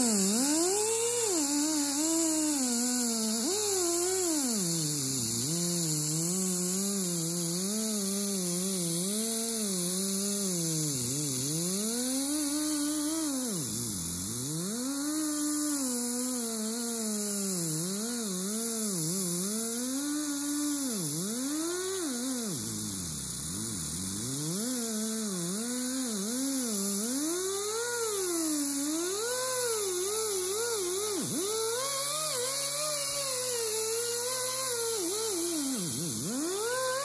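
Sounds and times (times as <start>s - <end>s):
die grinder whining: 0.0s - 37.0s
steady hiss: 0.0s - 37.0s.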